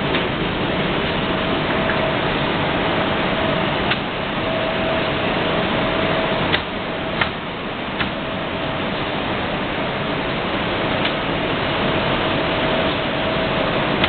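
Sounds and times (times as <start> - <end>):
profiling machine running: 0.0 - 14.0.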